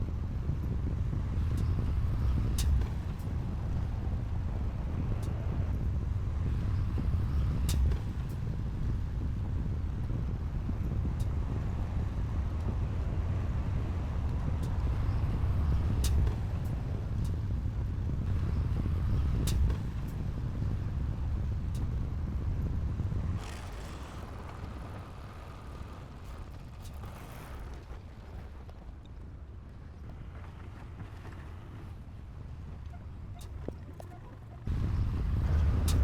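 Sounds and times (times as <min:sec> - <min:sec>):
diesel machinery rumbling: 0:00.4 - 0:30.3, 0:31.9 - 0:36.0.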